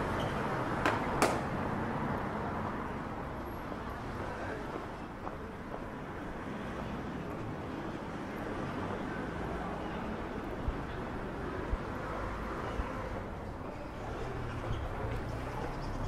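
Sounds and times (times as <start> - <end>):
distant traffic hum: 0.0 - 16.0.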